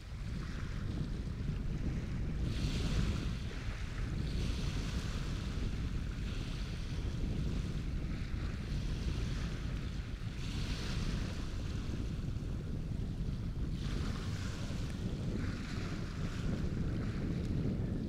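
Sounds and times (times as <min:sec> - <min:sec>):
waves washing in: 0:00.0 - 0:18.0
wind buffeting microphone: 0:00.0 - 0:18.0.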